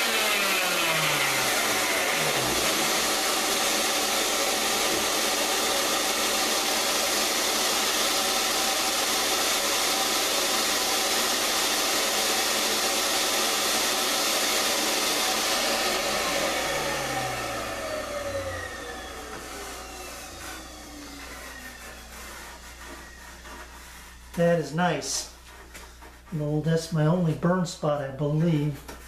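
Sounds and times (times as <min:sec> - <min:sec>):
wood router running: 0:00.0 - 0:24.3.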